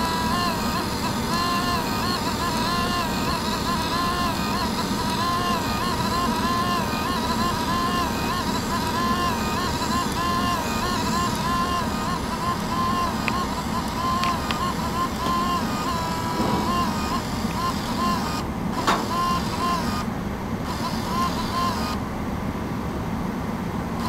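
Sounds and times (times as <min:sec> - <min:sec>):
printer paper-feed whine: 0:00.0 - 0:24.0.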